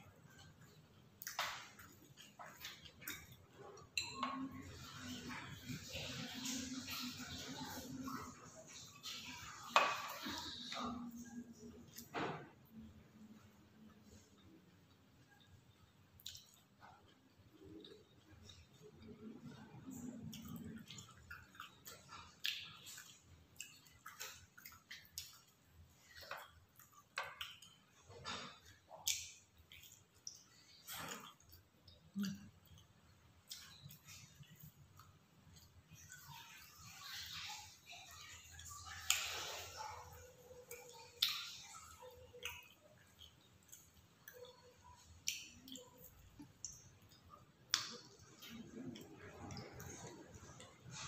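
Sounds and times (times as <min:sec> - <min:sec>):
person chewing food: 0:00.0 - 0:51.0.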